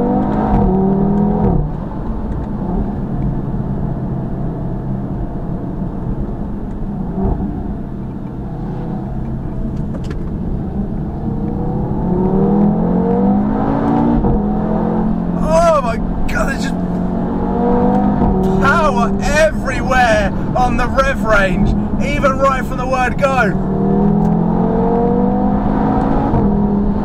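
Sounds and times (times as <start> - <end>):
car engine through exhaust: 0.0 - 27.0
road and wind rush: 0.0 - 27.0.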